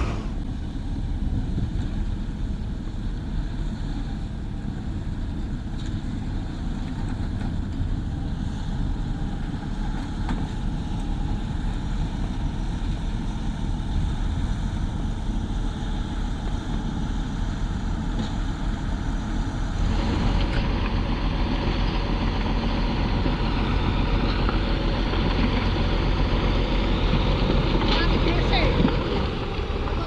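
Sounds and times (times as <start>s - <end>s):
construction machinery diesel engines: 0.0s - 30.0s.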